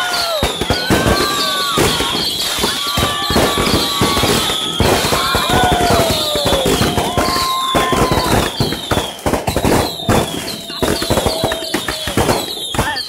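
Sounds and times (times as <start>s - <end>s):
fireworks bangs and crackling: 0.0s - 13.0s
shrill descending firework whistles: 0.0s - 13.0s.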